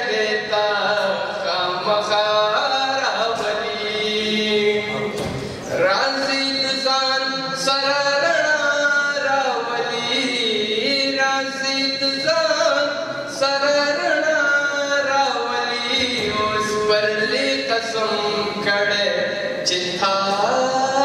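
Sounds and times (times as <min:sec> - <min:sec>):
young man chanting: 0:00.0 - 0:21.0.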